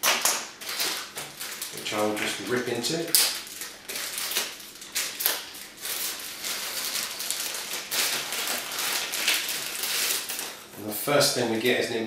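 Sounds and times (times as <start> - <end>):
plastic packet crinkling: 0.0 - 10.7.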